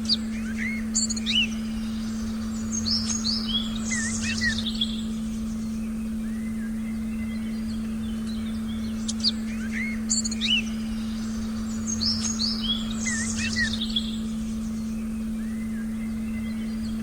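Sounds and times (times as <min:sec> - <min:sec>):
birds chirping: 0:00.0 - 0:17.0
steady low tone: 0:00.0 - 0:17.0.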